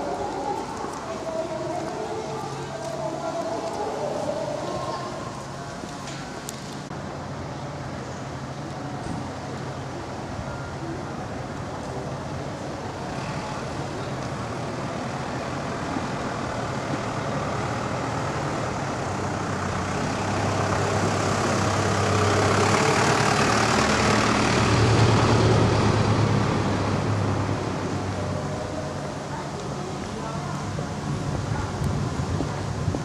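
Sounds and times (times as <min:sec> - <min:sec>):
heavy vehicle engine humming: 0:00.0 - 0:33.0.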